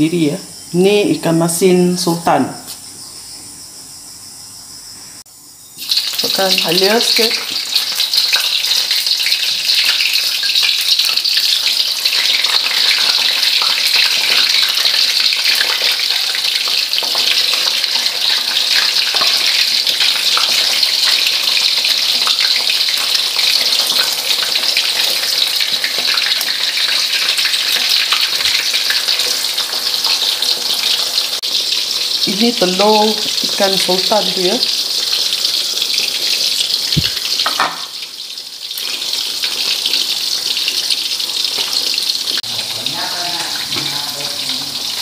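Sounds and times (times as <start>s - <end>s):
fish sizzling in hot oil: 5.4s - 45.0s.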